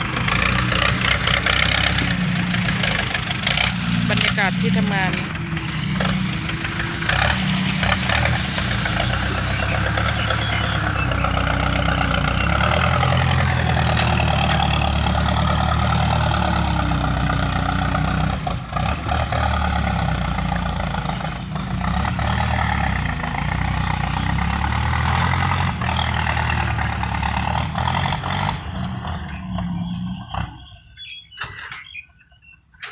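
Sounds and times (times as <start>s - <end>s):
vehicle engine revving: 0.0s - 31.2s.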